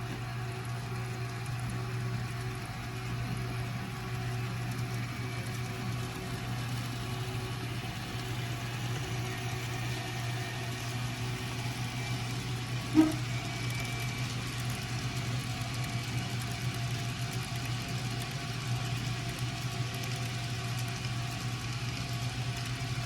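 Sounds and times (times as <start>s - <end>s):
model trains humming: 0.0s - 23.0s.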